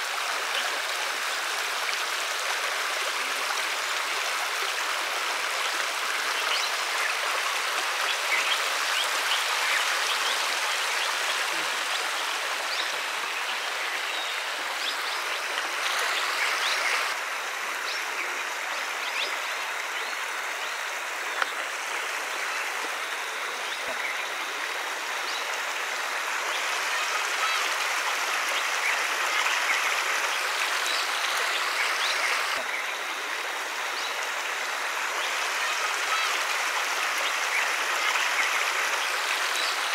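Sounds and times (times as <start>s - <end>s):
water trickles and splashes: 0.0s - 39.9s.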